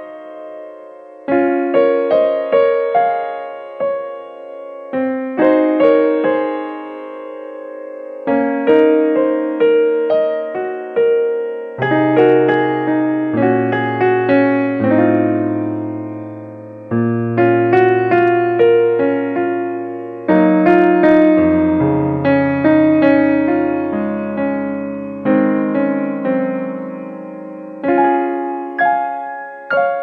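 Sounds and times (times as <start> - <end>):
gentle piano music: 0.0 - 30.0.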